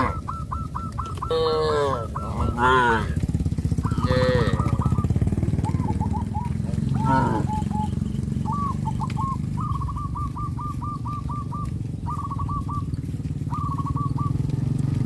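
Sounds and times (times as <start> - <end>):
bird trilling: 0.0 - 14.5
small engine running: 0.0 - 15.0.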